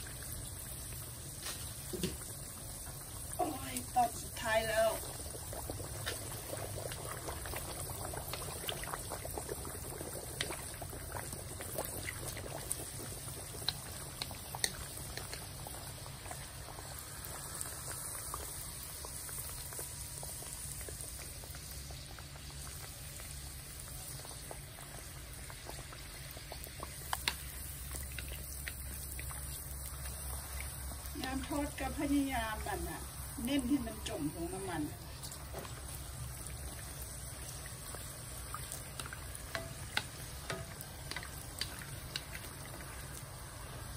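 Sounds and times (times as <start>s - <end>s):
hot oil sizzling and bubbling: 0.0s - 43.9s
sharp oil crackles: 0.0s - 43.9s.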